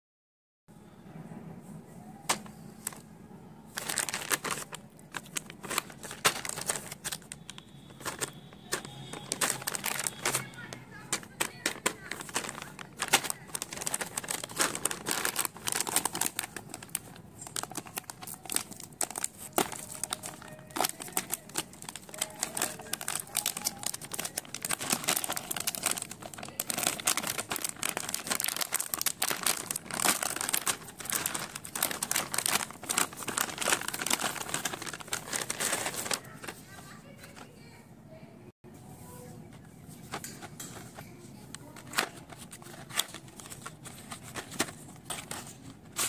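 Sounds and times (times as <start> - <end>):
plastic packaging tearing: 3.7 - 36.8, 41.8 - 46.0
plastic packaging crinkling: 3.7 - 37.5, 40.0 - 46.0.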